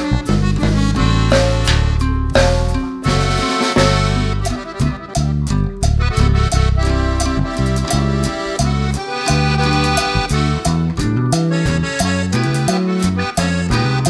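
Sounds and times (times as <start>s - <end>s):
accordion music with steady beat: 0.0s - 14.0s.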